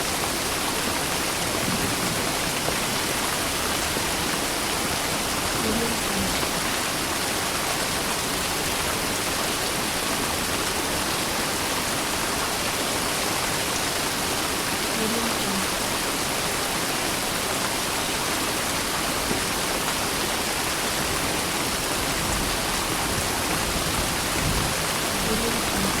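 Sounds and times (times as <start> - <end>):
steady hiss of water: 0.0 - 26.0.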